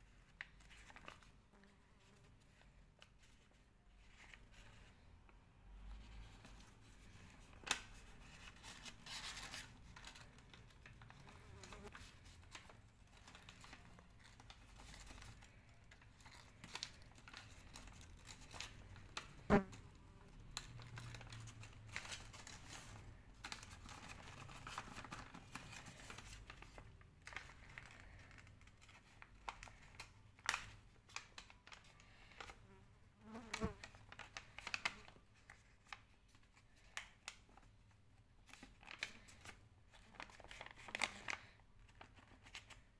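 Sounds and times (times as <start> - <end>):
paper being folded and creased: 0.0 - 5.1, 5.8 - 32.6, 33.8 - 42.9.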